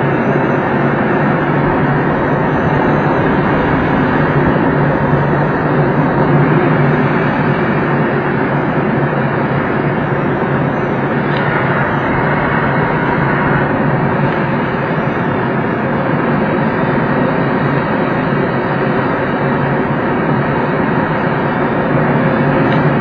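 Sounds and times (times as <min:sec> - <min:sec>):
airflow rushing over canopy: 0:00.0 - 0:23.0.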